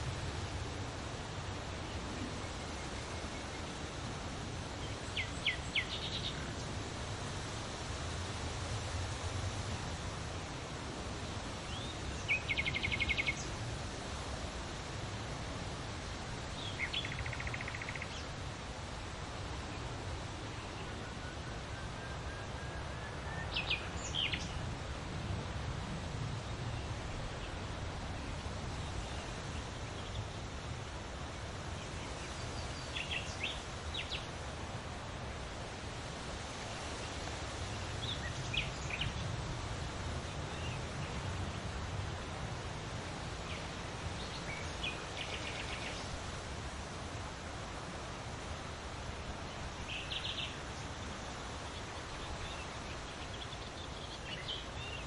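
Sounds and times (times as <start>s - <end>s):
wind rustling leaves: 0.0s - 55.0s.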